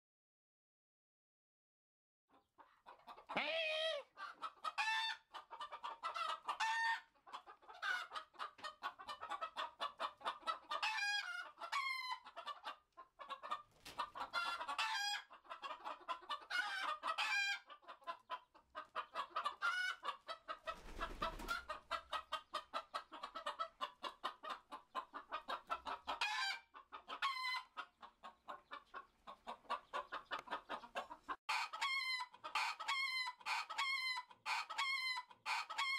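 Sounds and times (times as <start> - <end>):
chickens clucking and squawking: 2.3 - 35.9.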